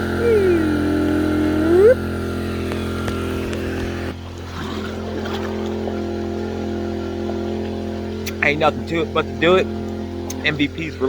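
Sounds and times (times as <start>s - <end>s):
small gasoline engine running: 0.0s - 11.0s.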